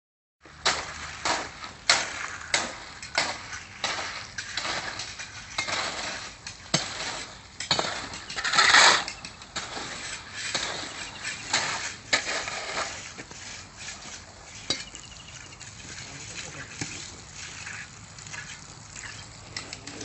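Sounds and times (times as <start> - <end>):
shovels scraping wet concrete: 0.5 - 20.0.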